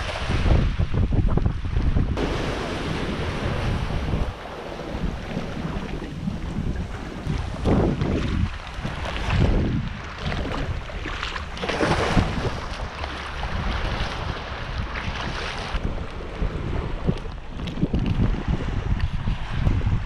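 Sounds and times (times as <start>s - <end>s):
wind buffeting microphone: 0.0s - 20.0s
seawater sloshing and splashing: 2.2s - 19.7s.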